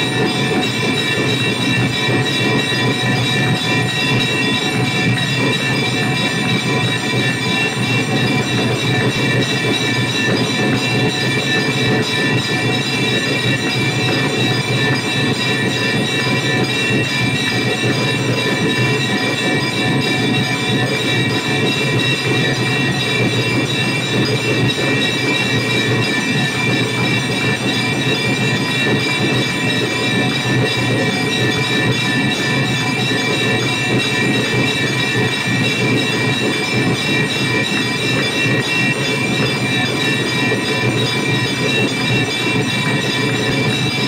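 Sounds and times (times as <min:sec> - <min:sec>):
brass temple bell ringing: 0:00.0 - 0:44.0.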